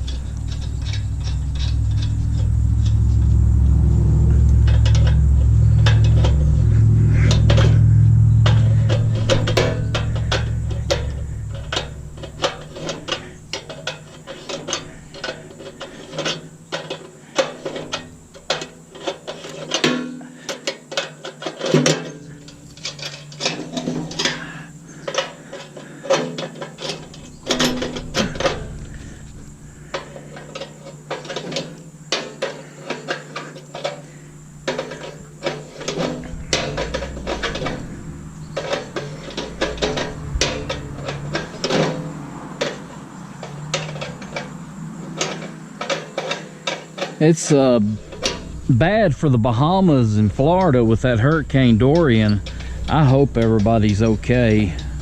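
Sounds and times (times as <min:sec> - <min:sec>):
tools clanking against metal: 0:00.0 - 0:55.0.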